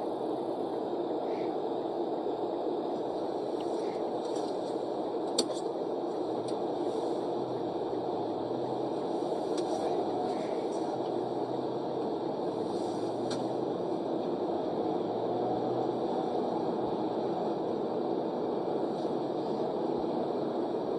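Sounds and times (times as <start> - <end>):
car engine and road noise: 3.4 - 20.9.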